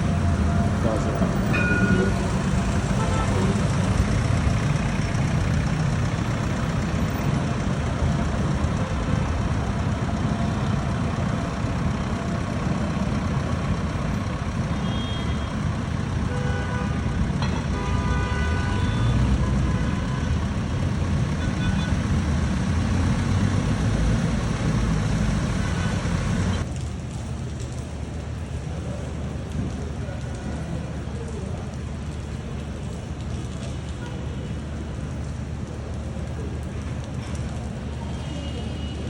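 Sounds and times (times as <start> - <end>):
street traffic passing: 0.0 - 39.0.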